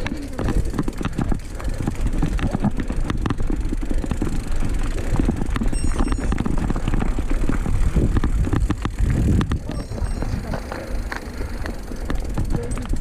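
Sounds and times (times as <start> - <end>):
bike rolling over rough trail: 0.0 - 13.0.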